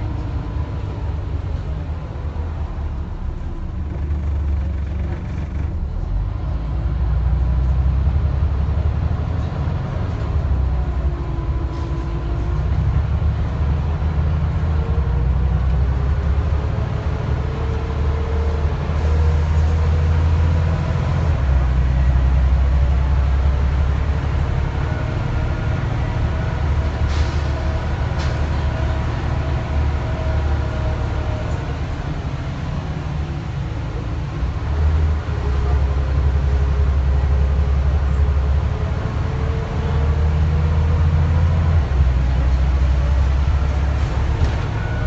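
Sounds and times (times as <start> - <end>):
bus diesel engine: 0.0 - 45.0
road rumble: 0.0 - 45.0.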